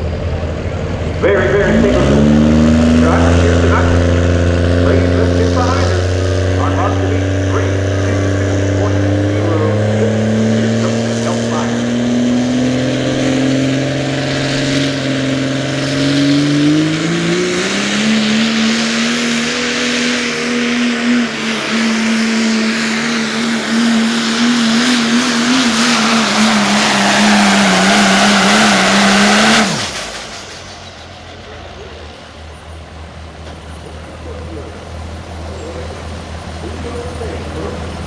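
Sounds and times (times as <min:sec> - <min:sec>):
diesel truck engine at full throttle: 0:00.0 - 0:38.0.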